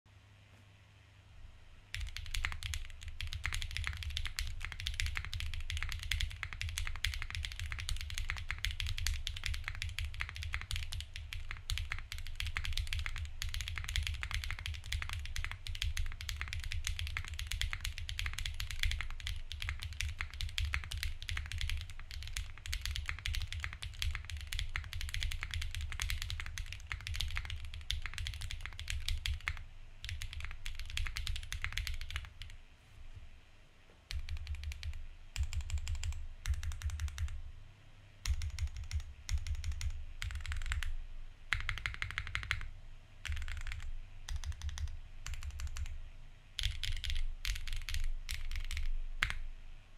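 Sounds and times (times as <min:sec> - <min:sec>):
mechanical keyboard typing: 0:01.9 - 0:32.6, 0:34.1 - 0:37.4, 0:38.2 - 0:46.0, 0:46.6 - 0:49.4.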